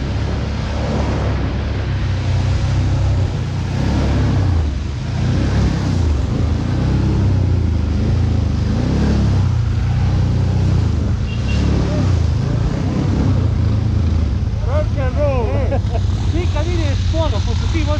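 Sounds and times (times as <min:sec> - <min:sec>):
atv engine revving: 0:00.0 - 0:17.9.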